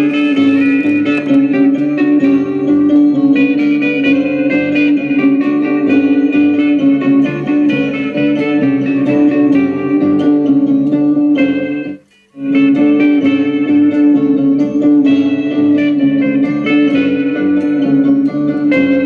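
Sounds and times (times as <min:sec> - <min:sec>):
guitar music from record player: 0:00.0 - 0:19.0.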